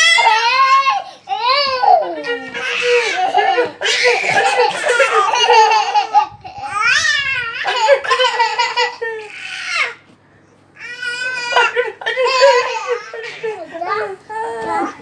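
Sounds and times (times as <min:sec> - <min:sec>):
baby and toddler laughing: 0:00.0 - 0:10.0, 0:11.0 - 0:15.0.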